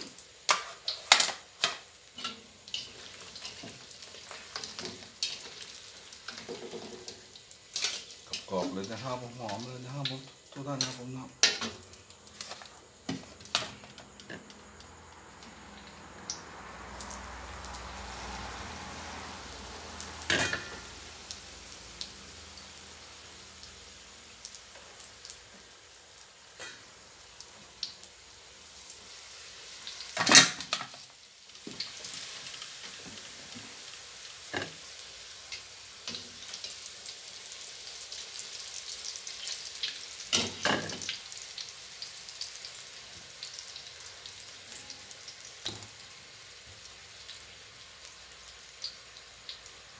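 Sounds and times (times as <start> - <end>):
food sizzling in hot oil: 0.0 - 49.9.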